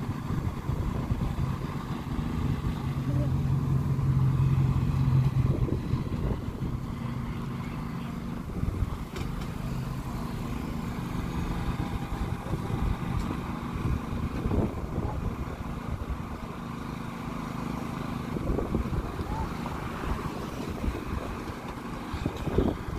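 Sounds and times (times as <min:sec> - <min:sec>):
diesel engines idling: 0:00.0 - 0:22.9.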